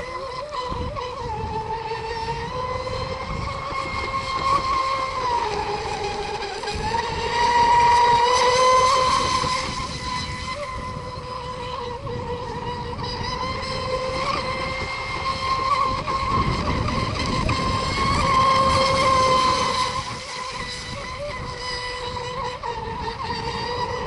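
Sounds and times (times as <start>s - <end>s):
model boat motors whining: 0.0s - 24.0s
rush of hulls on water: 0.0s - 24.0s.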